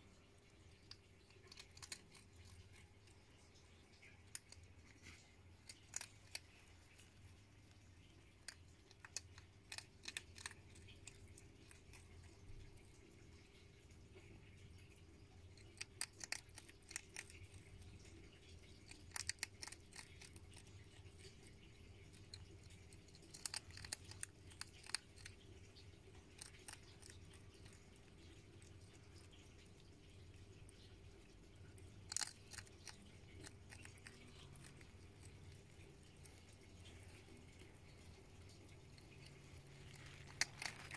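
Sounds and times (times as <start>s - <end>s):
faint low hum: 0.0s - 40.9s
hedgehog crunching pellet food: 0.1s - 40.9s.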